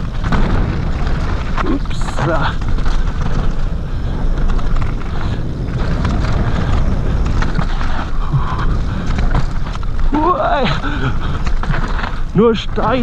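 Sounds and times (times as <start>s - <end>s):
bike rattling over bumps: 0.0s - 13.0s
wind on microphone: 0.0s - 13.0s.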